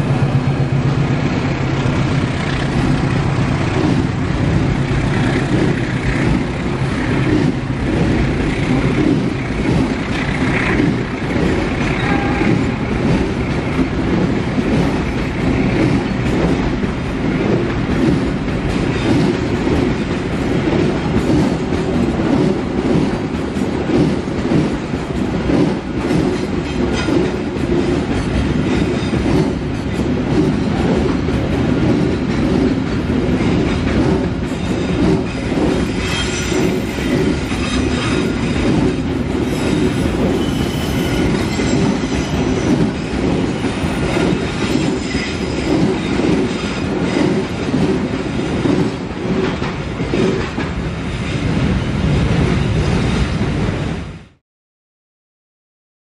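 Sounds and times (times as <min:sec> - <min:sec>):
train wheels rumbling on rails: 0:00.0 - 0:54.4.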